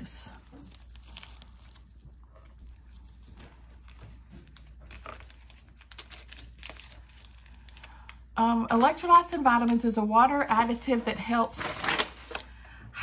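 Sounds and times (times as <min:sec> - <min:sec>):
paper packets rustling: 0:00.0 - 0:12.6
low steady hum: 0:00.0 - 0:13.0.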